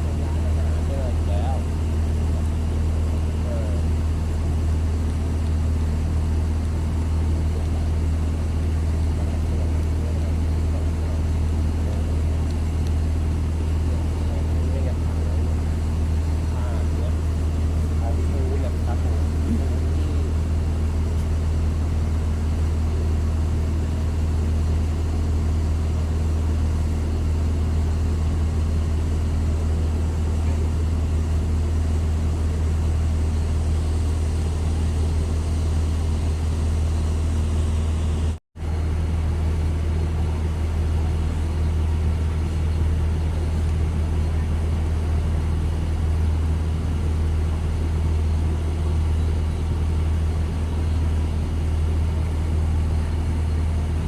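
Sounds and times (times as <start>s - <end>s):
engine humming: 0.0s - 54.0s.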